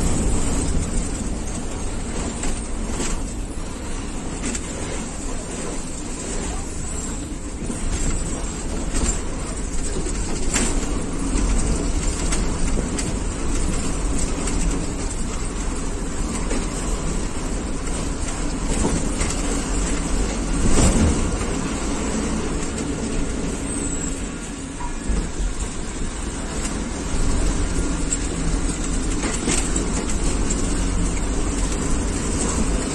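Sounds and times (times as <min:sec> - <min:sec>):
bus engine and road rumble: 0:00.0 - 0:32.9
bus jolt: 0:00.0 - 0:32.9.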